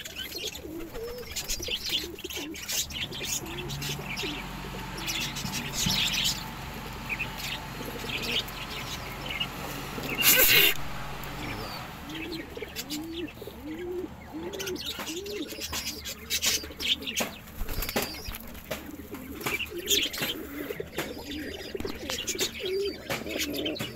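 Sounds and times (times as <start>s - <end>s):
wings flapping: 0.0s - 6.6s, 7.3s - 23.9s
pigeons cooing: 0.0s - 23.9s.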